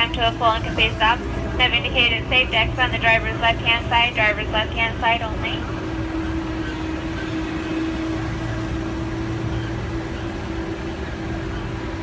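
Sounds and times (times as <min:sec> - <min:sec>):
constant hum: 0:00.0 - 0:12.0
tram low rumble: 0:00.0 - 0:12.0.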